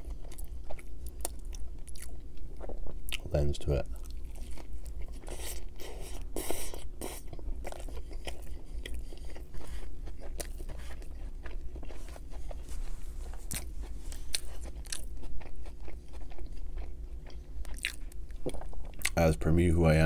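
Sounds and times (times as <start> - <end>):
person chewing food: 0.0 - 19.2.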